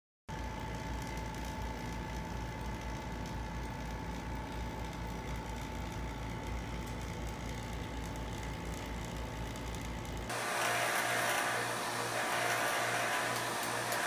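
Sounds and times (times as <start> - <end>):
vacuum pump droning: 0.3 - 14.0.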